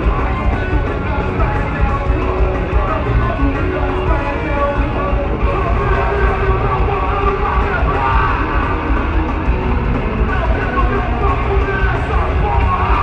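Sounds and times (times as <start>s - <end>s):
live rock band playing loudly: 0.0s - 13.0s.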